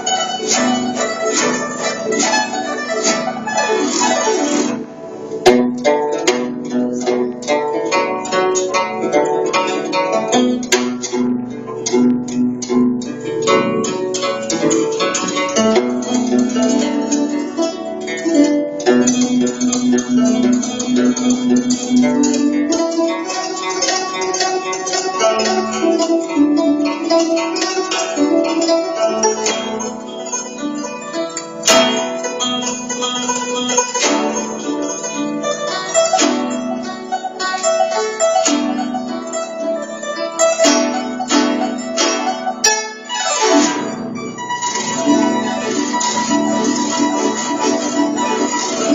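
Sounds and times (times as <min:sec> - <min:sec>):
plucked zither notes: 0:00.0 - 0:48.9.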